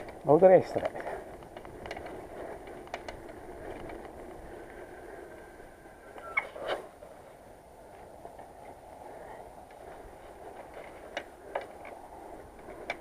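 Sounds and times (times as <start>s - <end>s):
bicycle riding noise: 0.0s - 13.0s.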